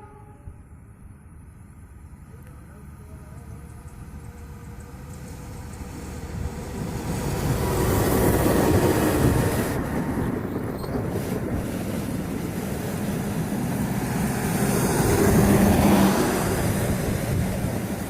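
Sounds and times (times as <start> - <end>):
train passing with rumble: 0.0 - 18.0.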